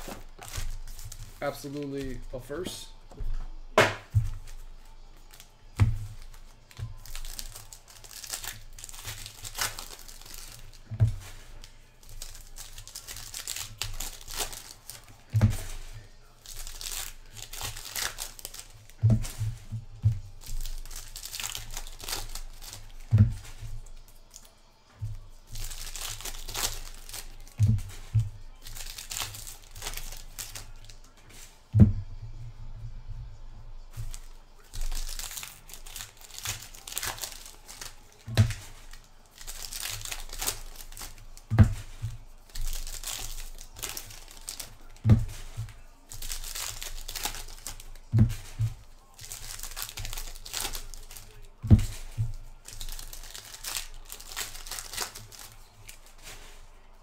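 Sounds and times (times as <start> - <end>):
foil wrappers crinkling and tearing: 0.0 - 31.7, 33.8 - 57.0.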